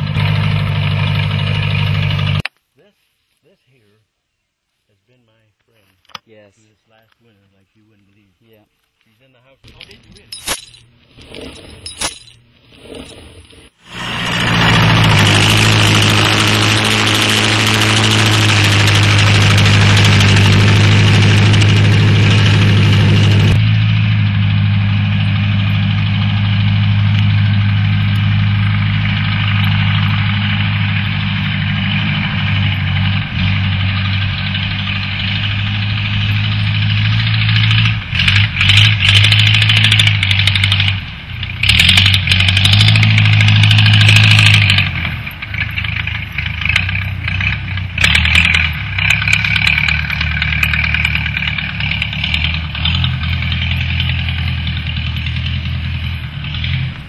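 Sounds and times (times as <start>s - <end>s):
bulldozer diesel engine running: 0.0s - 2.4s, 13.7s - 57.0s.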